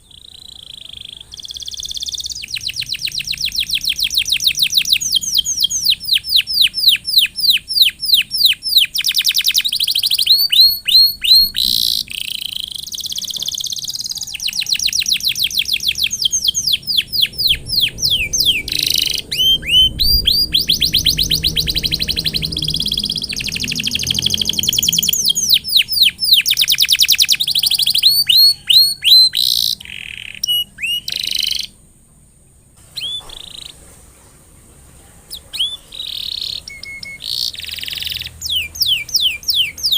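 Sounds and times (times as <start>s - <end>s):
canary singing trills: 0.0s - 34.0s, 35.3s - 39.9s.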